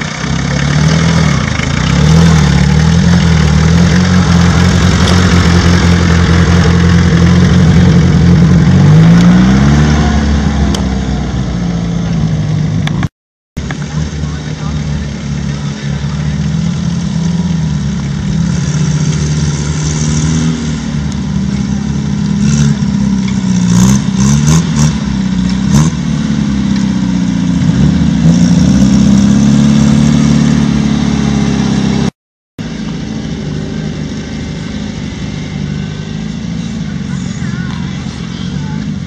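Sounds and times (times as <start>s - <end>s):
jeep engine revving: 0.0s - 39.0s.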